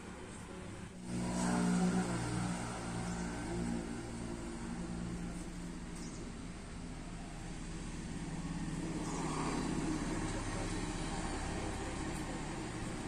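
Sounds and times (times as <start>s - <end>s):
car engine idling: 1.7s - 13.0s.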